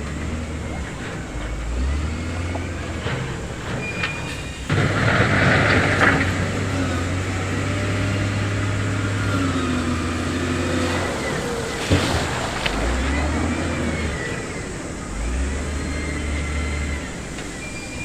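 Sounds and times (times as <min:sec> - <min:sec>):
heavy diesel engine droning: 0:00.0 - 0:18.0
rough rushing rattle: 0:00.0 - 0:18.0.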